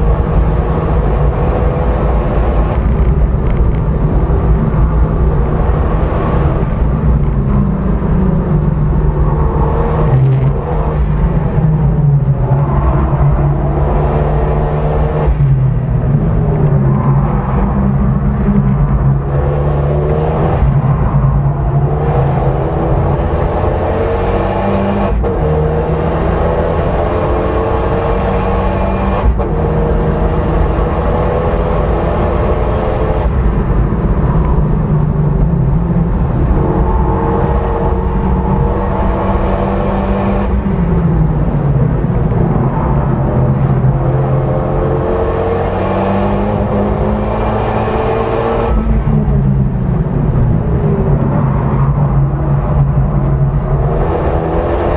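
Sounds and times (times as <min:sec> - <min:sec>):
car engine accelerating: 0:00.0 - 0:54.9
road and tyre rumble: 0:00.0 - 0:54.9.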